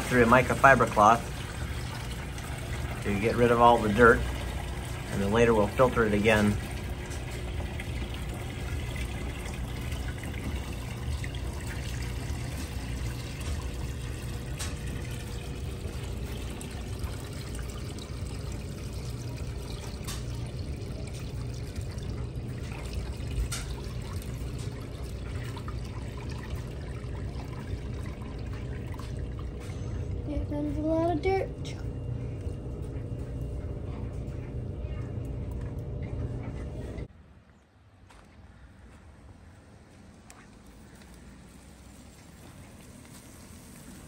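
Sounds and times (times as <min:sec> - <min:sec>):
liquid pouring and trickling: 0:00.0 - 0:34.4, 0:40.0 - 0:44.0.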